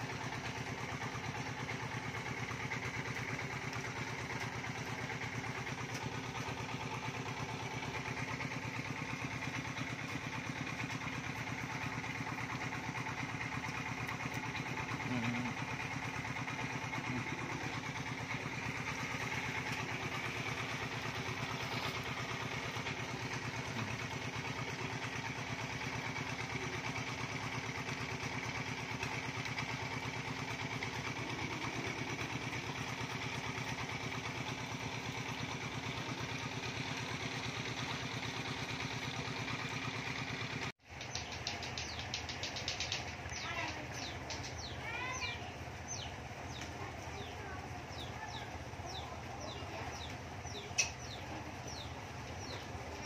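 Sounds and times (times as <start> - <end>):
small engine idling: 0.0 - 53.0.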